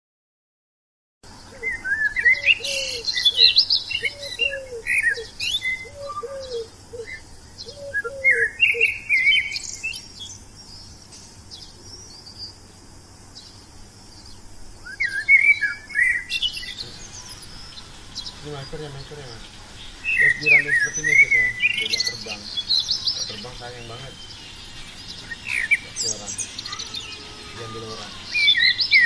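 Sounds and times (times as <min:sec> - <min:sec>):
birds chirping: 0:01.3 - 0:29.0
lower arched bird calls: 0:01.3 - 0:29.0.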